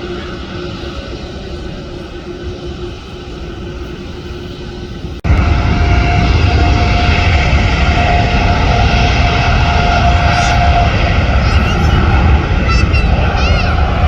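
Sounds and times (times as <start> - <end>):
jet engine rumble: 0.0 - 14.0
jet engine whine: 0.0 - 14.0.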